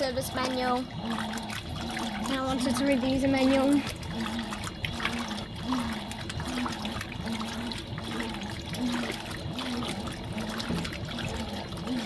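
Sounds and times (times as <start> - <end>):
washing machine motor hum: 0.0 - 12.0
water sloshing in washing machine: 0.0 - 12.0.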